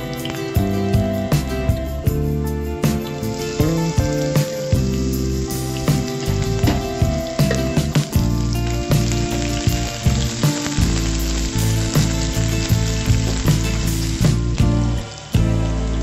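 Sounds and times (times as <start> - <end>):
background music: 0.0 - 16.0
food sizzling in hot oil: 0.0 - 16.0.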